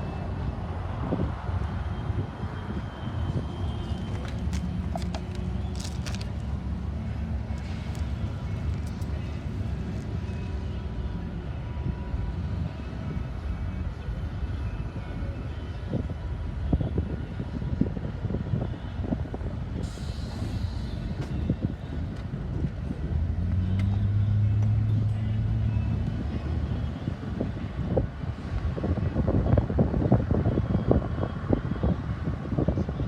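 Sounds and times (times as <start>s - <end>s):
low diesel drone: 0.0s - 32.5s.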